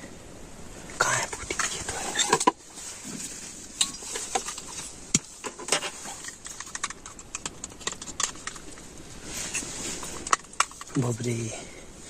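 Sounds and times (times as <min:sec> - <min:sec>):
light clicks and crackles: 0:00.9 - 0:11.4.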